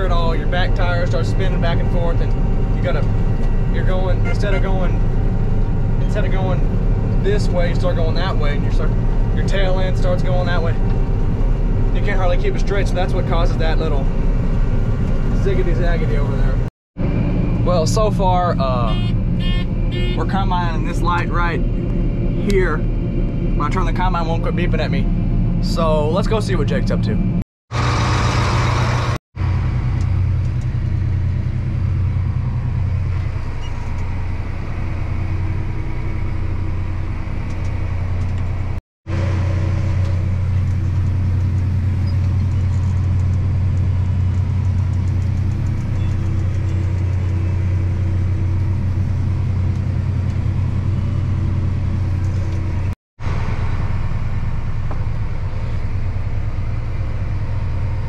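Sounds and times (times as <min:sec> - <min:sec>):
diesel engine humming under load: 0:00.0 - 0:58.0.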